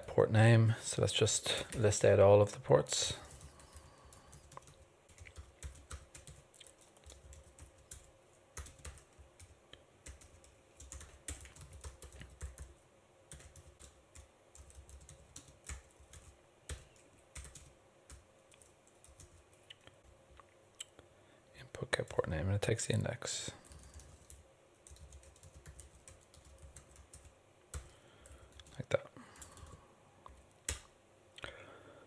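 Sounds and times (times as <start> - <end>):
faint keyboard typing: 1.4 - 21.0, 23.5 - 31.5.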